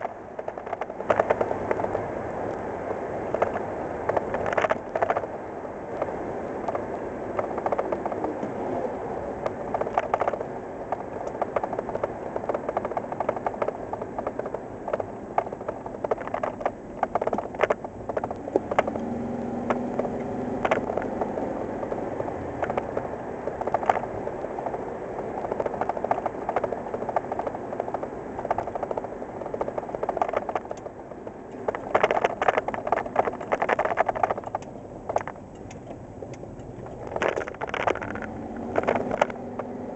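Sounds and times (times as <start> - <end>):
truck rattles and knocks: 0.0 - 2.1, 2.8 - 8.6, 9.3 - 39.9
pickup truck engine running: 0.0 - 39.9
road and wind noise: 0.0 - 39.9.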